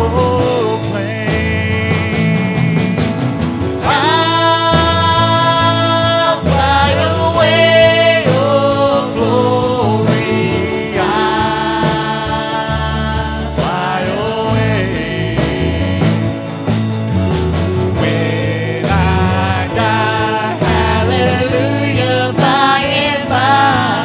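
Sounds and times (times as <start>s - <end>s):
worship band playing: 0.0s - 24.0s
voices singing held notes: 3.8s - 24.0s.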